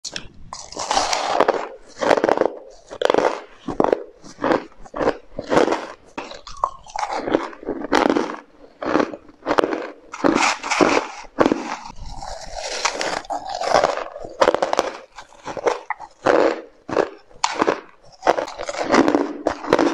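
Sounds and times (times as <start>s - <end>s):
ice being chewed: 0.1s - 19.9s.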